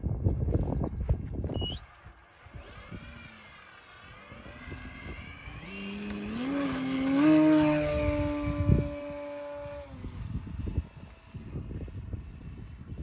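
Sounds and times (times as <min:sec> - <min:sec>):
wind rumbling on microphone: 0:00.0 - 0:13.0
model airplane motor whining: 0:00.6 - 0:13.0.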